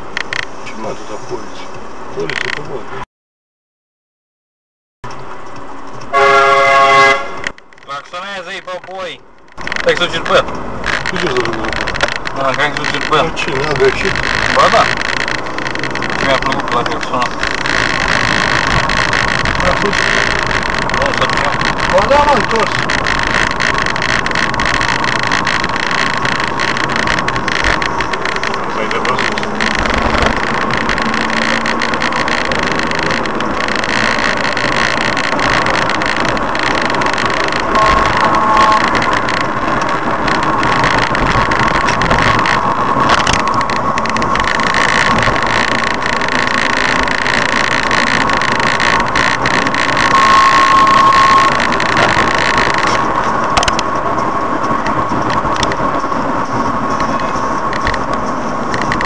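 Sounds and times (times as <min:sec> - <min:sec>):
car engine and tyre noise: 0:00.0 - 0:03.0, 0:05.0 - 0:59.0
faint whine: 0:07.4 - 0:59.0.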